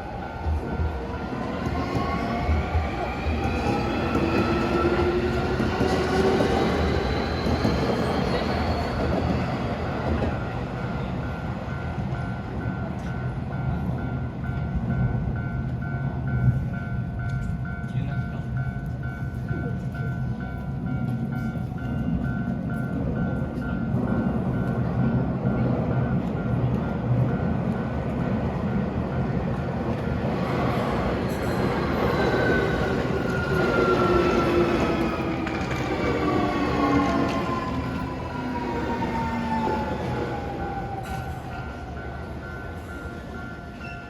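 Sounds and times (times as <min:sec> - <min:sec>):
electric train rumbling past: 0:00.0 - 0:44.0.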